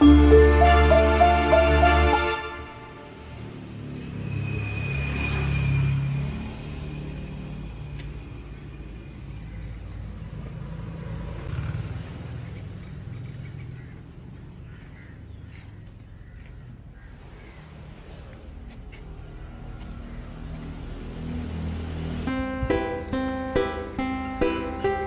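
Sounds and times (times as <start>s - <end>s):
motor vehicle rumble: 0.0s - 25.0s.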